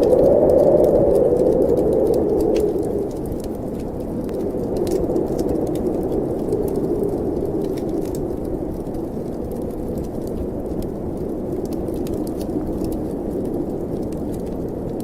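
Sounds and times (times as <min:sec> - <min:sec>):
wind blowing: 0:00.0 - 0:14.0
wood fire crackling: 0:00.0 - 0:15.0.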